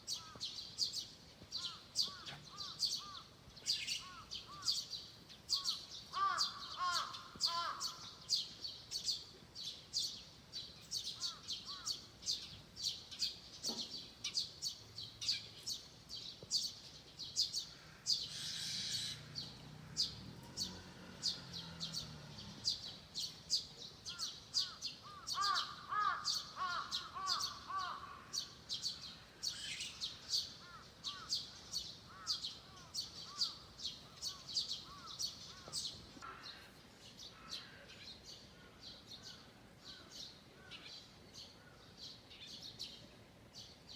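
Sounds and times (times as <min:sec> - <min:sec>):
birds chirping: 0:00.0 - 0:43.9
low warbling birdsong: 0:00.0 - 0:43.9.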